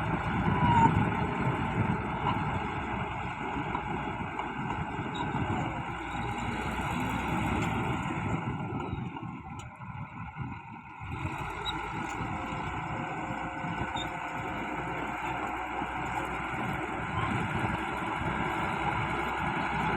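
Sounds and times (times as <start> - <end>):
bulldozer engines running: 0.0 - 19.9.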